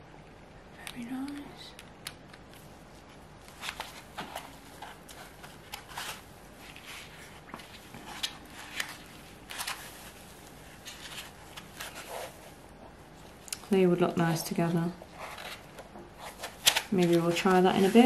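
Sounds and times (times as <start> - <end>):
soft rustling: 2.5 - 18.0.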